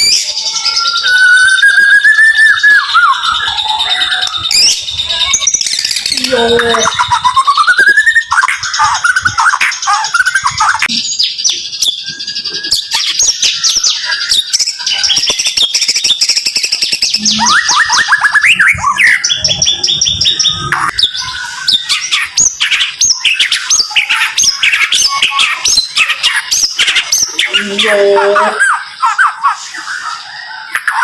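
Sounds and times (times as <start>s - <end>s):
songbird trilling and whistling: 0.0s - 31.0s.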